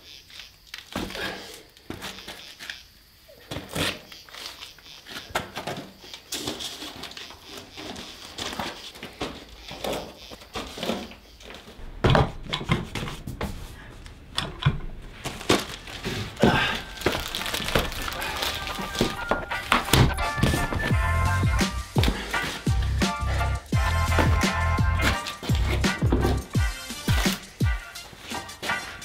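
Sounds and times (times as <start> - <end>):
packages knocking and thudding: 0.8 - 2.4, 3.4 - 29.0
plastic parcels crinkling: 3.5 - 11.8, 12.6 - 21.0, 21.8 - 29.0.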